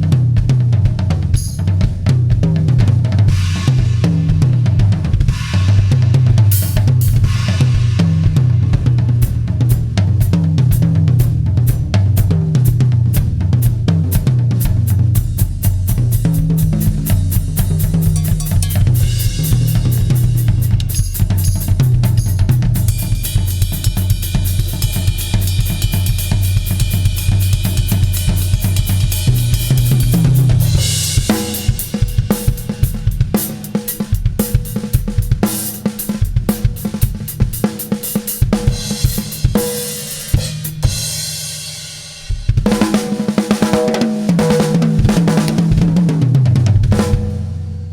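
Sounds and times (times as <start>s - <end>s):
drum kit groove: 0.0s - 47.9s.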